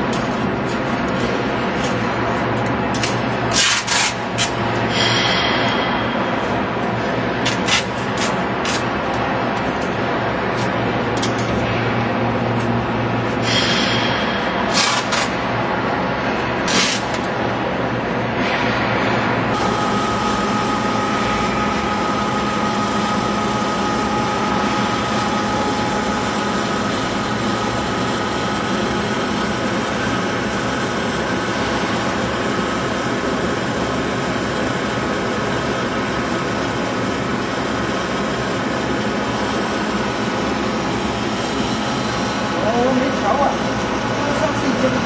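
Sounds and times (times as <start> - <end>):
machine drone: 0.0 - 45.0.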